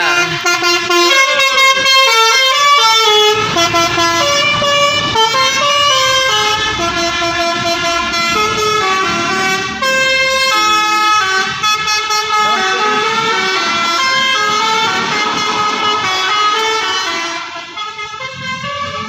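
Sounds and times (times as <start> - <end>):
bus engine noise: 0.0 - 19.0
multi-tone air horn playing a tune: 0.0 - 19.0.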